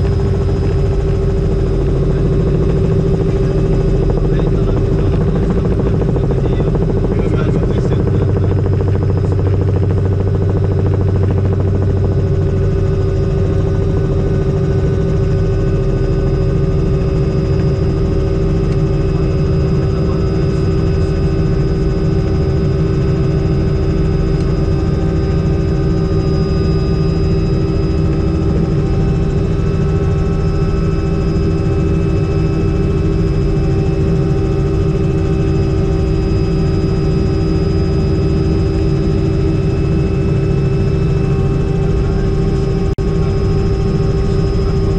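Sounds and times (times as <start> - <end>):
helicopter rotor drone: 0.0 - 44.9
helicopter whine: 0.0 - 44.9.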